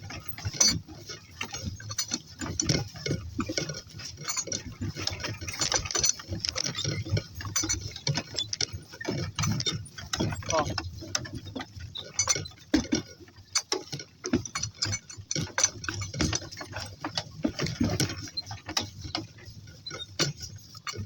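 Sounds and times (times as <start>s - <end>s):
footsteps of person and donkeys: 0.0s - 21.0s.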